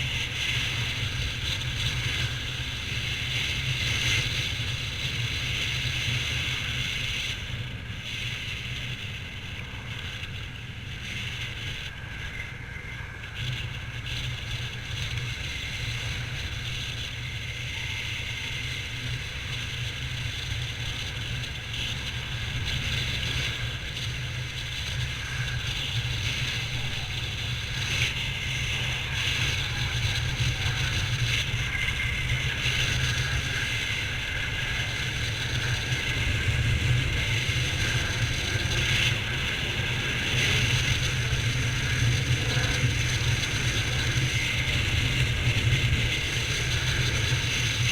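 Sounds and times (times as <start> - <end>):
wind noise on microphone: 0.0 - 47.9.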